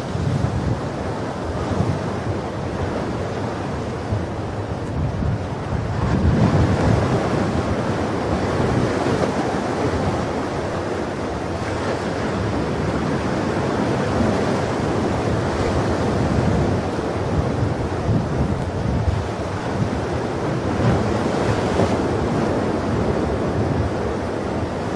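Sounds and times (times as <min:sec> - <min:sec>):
waves washing in: 0:00.0 - 0:24.9.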